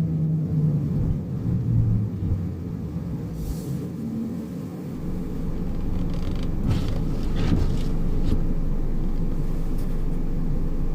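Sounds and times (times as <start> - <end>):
car road and drivetrain rumble: 0.0 - 10.9.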